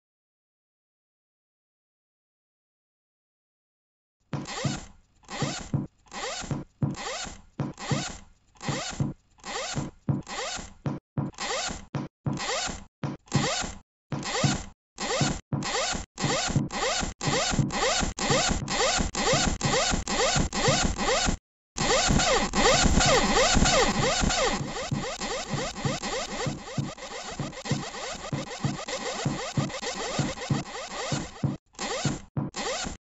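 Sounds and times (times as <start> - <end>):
rhythmic rasping strokes: 4.4 - 33.0.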